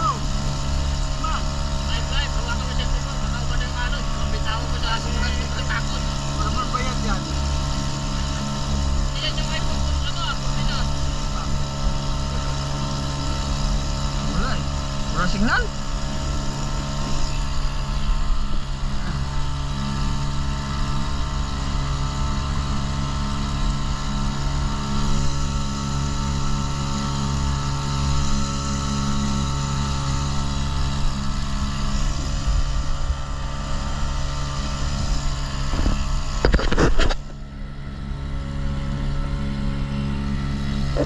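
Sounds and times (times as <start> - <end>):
outboard motor running: 0.0 - 41.0
water noise: 0.0 - 41.0
wind: 0.0 - 41.0.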